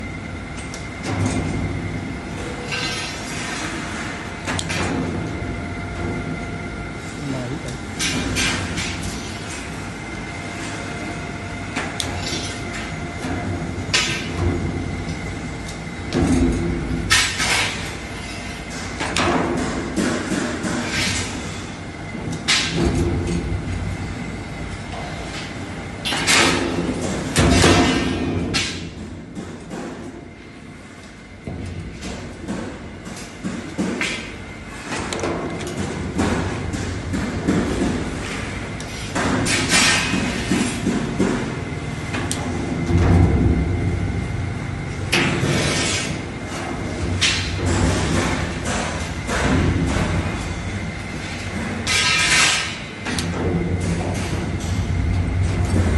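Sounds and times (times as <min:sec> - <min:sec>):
machine low hum: 0:00.0 - 0:55.9.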